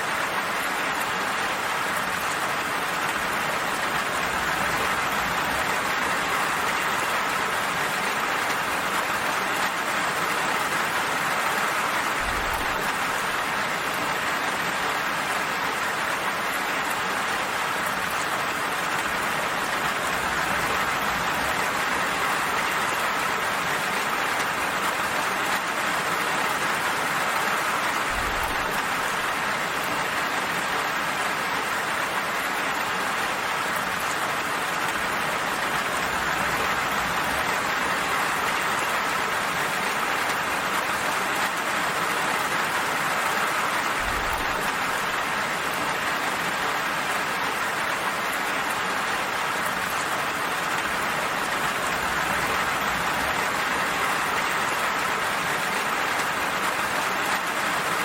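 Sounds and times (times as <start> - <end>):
steady rainfall hissing: 0.0 - 58.0.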